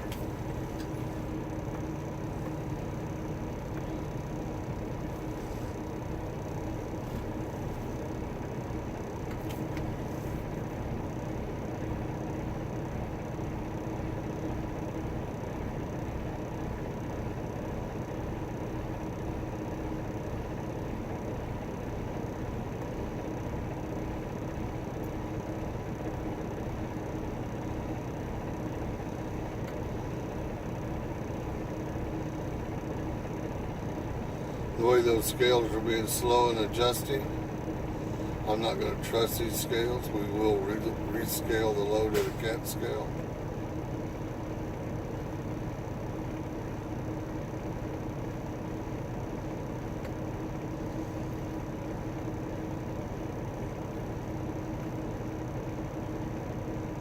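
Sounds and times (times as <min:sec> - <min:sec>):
diesel truck engine idling: 0:00.0 - 0:57.0
faint steady cab hum: 0:00.0 - 0:57.0.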